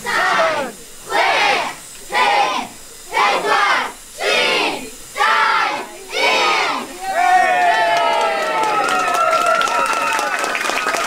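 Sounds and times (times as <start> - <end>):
crowd shouting in unison: 0.0 - 9.2.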